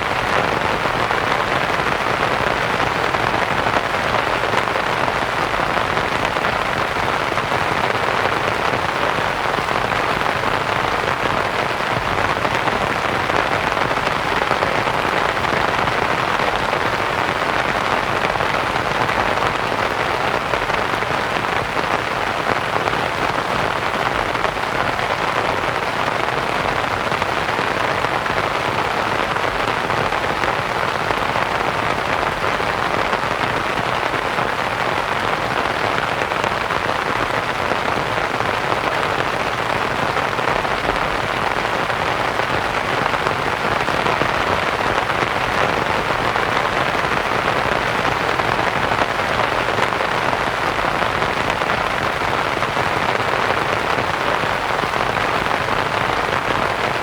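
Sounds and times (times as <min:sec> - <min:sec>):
rain pattering on a tent: 0:00.0 - 0:57.0.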